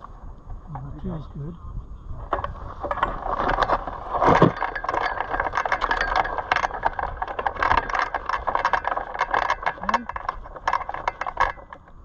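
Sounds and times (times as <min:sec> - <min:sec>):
hang glider frame rattling: 0:02.2 - 0:12.0.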